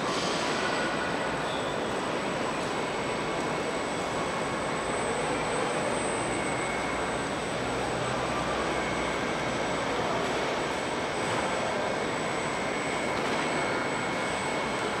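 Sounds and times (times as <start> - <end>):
airport terminal hall noise: 0.0 - 15.0.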